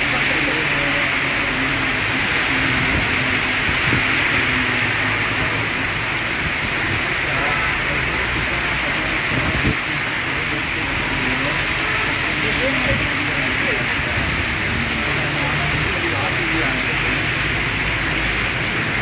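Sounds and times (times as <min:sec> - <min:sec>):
heavy rain on a street: 0:00.0 - 0:19.0.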